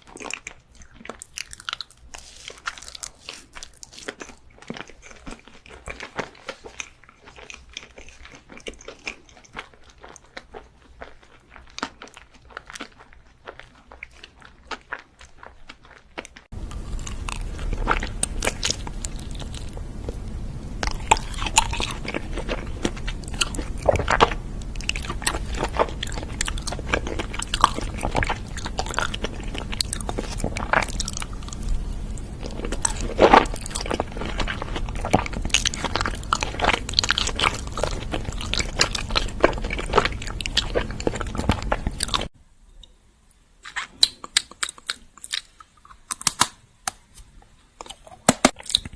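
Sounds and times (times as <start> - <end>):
chewing crunchy sweets: 0.0 - 42.4, 43.6 - 48.9.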